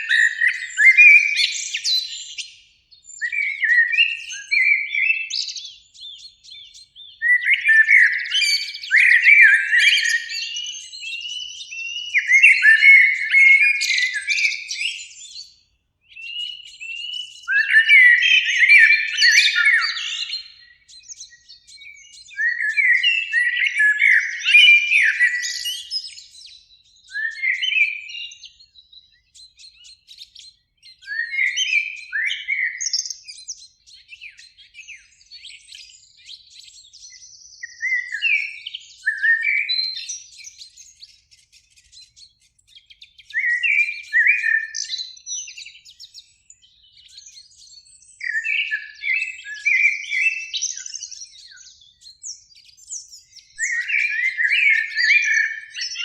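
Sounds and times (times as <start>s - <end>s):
blackbird singing: 0.0s - 56.0s.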